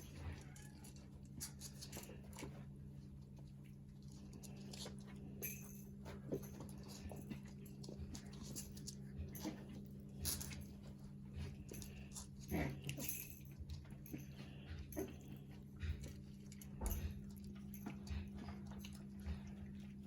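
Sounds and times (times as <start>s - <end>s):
puppies scratching and rustling: 0.0s - 20.0s
steady low hum: 0.0s - 20.0s.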